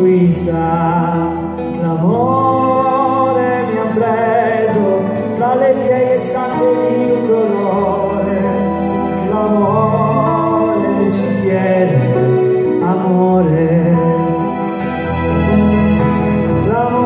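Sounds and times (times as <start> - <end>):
accordion: 0.0 - 17.0
acoustic guitars: 0.0 - 17.0
man singing wordless notes: 0.0 - 17.0.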